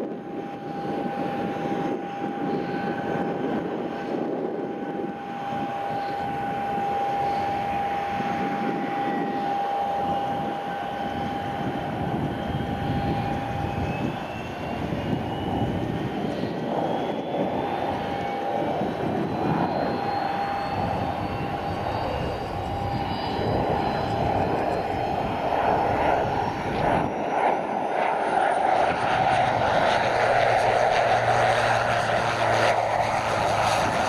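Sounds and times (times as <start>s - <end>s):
propeller aircraft engine drone: 0.0s - 34.0s
turbine whine: 0.0s - 34.0s
wind on microphone: 0.0s - 34.0s.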